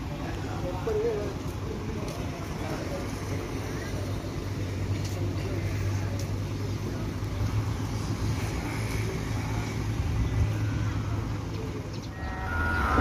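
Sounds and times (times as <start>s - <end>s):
heavy vehicle engine idling: 0.0s - 13.0s.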